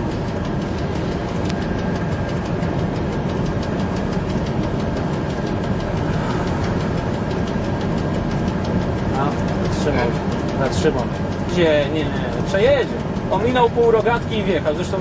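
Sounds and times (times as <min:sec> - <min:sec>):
faint rhythmic track clicks: 0:00.0 - 0:15.0
train rumbling on track: 0:00.0 - 0:15.0.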